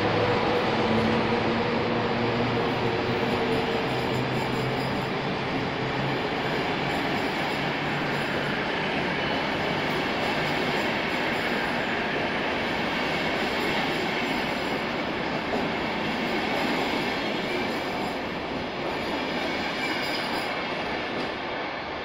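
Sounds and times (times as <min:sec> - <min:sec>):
train wheels running on rails: 0:00.0 - 0:22.0.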